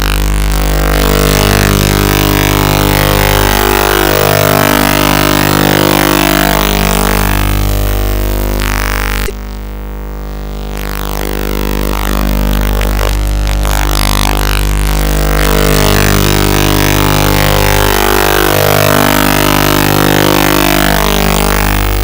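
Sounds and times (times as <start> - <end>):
electronic music with low drone: 0.0 - 9.4, 10.6 - 22.0.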